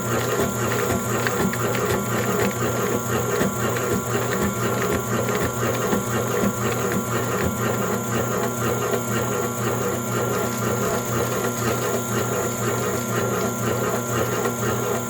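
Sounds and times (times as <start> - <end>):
cutting machine humming: 0.0 - 15.0.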